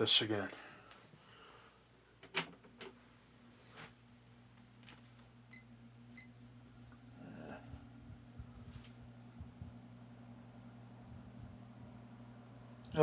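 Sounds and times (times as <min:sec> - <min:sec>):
fan motor humming: 0:02.2 - 0:13.0.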